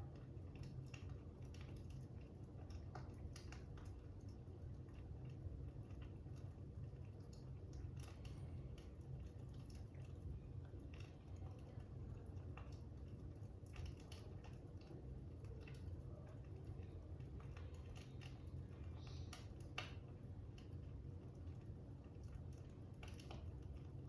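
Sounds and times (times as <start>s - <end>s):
fire popping and clicking: 0.0s - 24.0s
low fire rumble: 0.0s - 24.0s.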